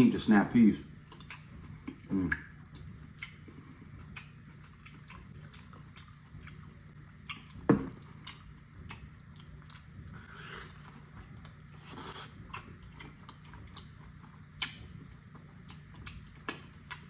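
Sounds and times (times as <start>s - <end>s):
faint steady hum: 0.0s - 17.0s
mouth chewing sounds: 1.0s - 17.0s.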